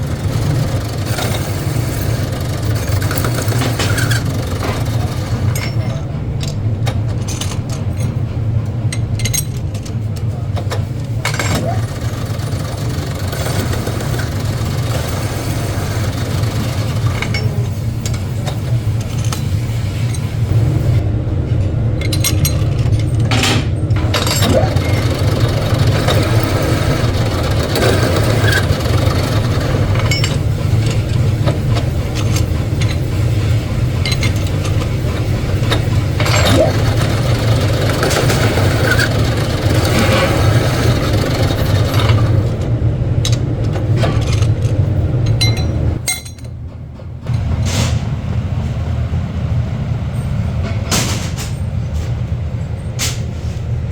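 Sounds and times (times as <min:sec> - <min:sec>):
factory machinery humming: 0:00.0 - 0:53.9.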